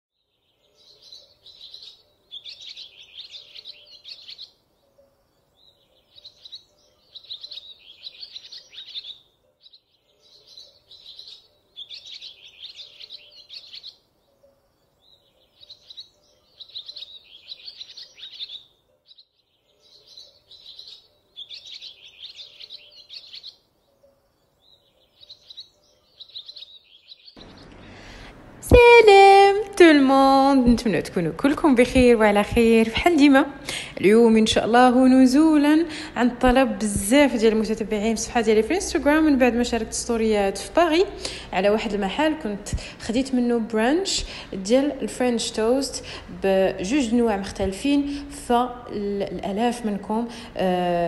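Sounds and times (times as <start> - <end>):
songbirds twittering: 0.1 - 29.1, 29.8 - 51.0.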